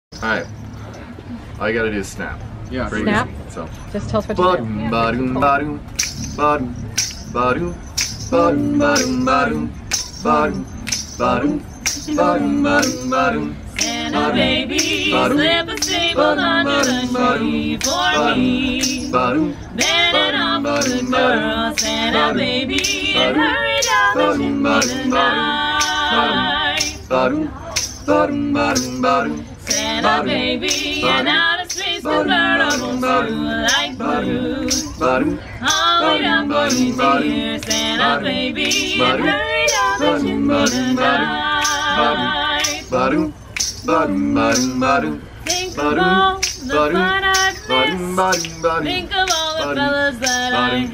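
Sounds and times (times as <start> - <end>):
group singing a cappella: 4.3 - 50.9.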